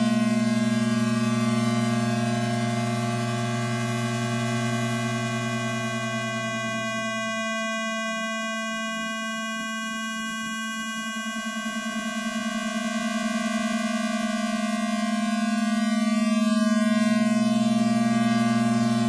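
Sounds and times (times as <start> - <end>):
buzzy electronic square-wave drone: 0.0 - 19.0.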